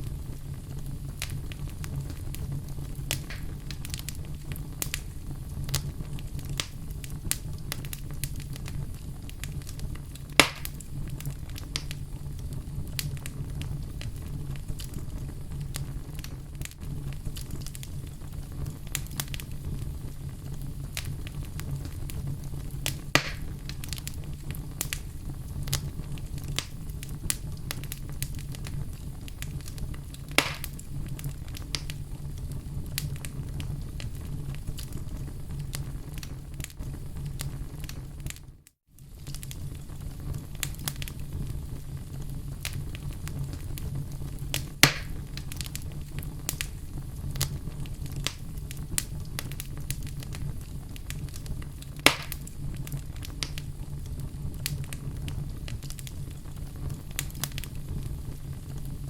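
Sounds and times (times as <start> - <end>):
fireplace fire crackling: 0.0 - 59.0
loud fire pops: 0.0 - 59.0.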